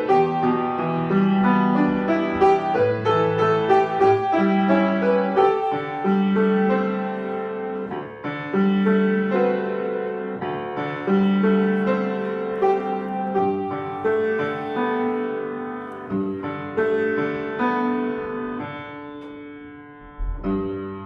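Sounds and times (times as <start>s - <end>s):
solo piano playing: 0.0s - 21.0s.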